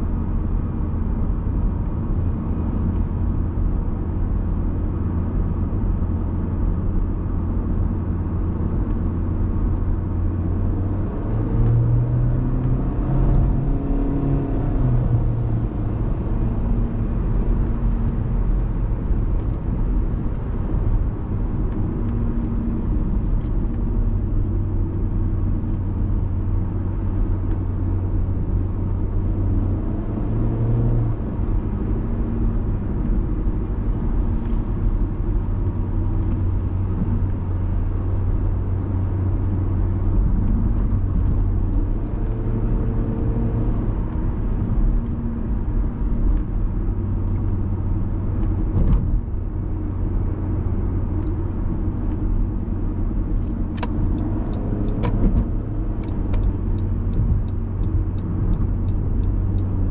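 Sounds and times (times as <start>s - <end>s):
car engine and road drone: 0.0s - 59.9s.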